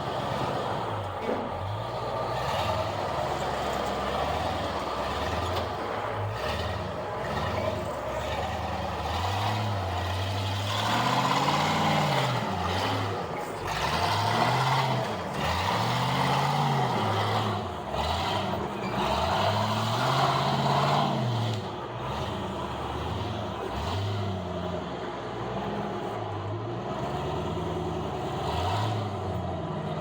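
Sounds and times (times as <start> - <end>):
off-road vehicle engine revving: 0.0 - 30.0.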